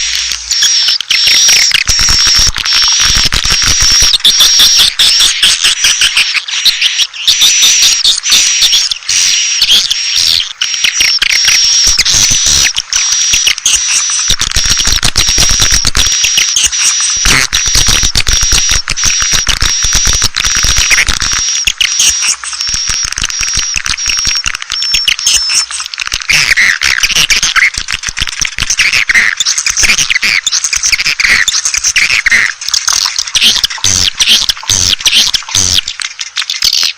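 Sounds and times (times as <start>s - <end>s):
swiftlets twittering: 0.0s - 36.9s.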